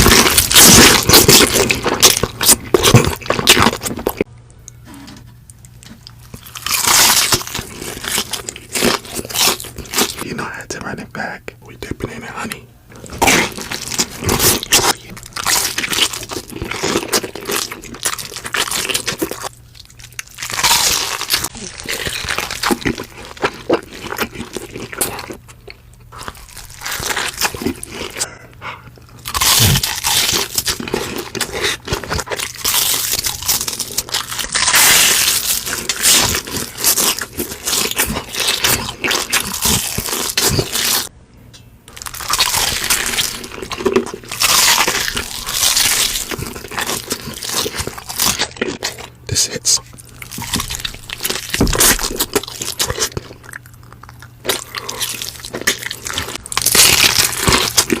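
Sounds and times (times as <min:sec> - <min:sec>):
crunching and chewing crispy food: 0:00.0 - 0:41.1, 0:41.9 - 0:58.0.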